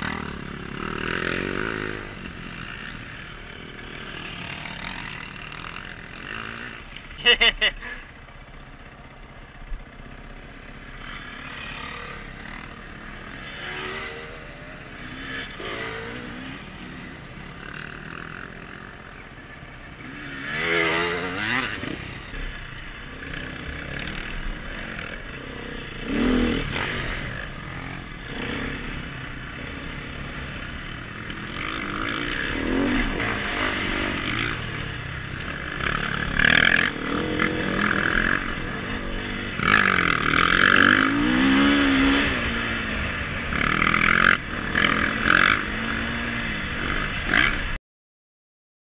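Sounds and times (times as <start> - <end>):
dirt bike engine revving: 0.0 - 8.1, 10.3 - 47.8.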